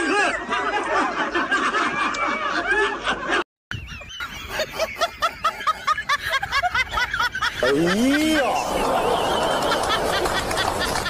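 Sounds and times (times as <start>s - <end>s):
people laughing: 0.0s - 3.4s, 4.2s - 11.0s.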